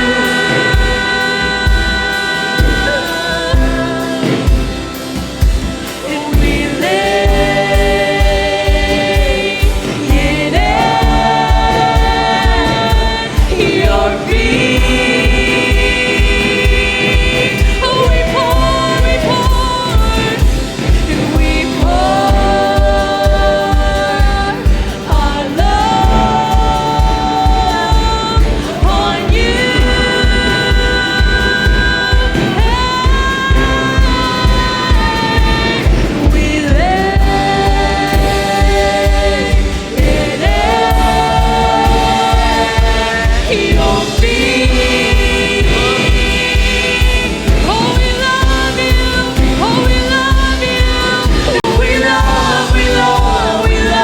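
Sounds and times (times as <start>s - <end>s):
voices holding sliding notes: 0.0s - 54.0s.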